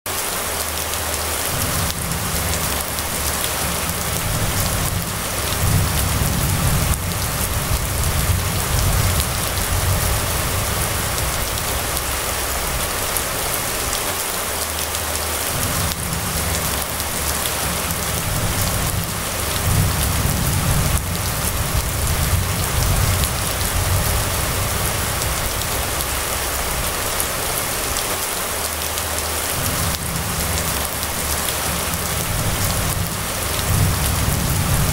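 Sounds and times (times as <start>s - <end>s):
rain on a wet street: 0.1s - 34.9s
low rumble: 1.5s - 14.1s, 14.8s - 28.0s, 29.4s - 34.9s.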